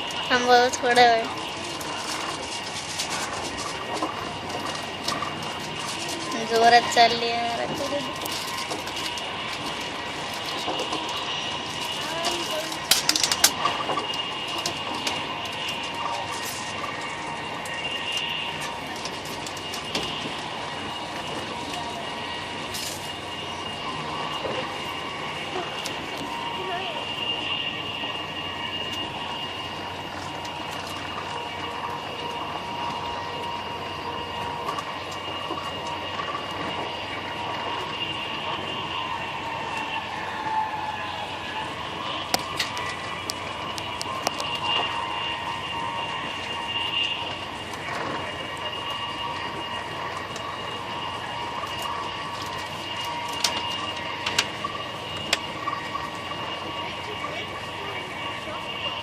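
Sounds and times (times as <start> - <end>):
high-pitched whine: 0.0 - 59.0
vehicle running rumble: 0.0 - 59.0.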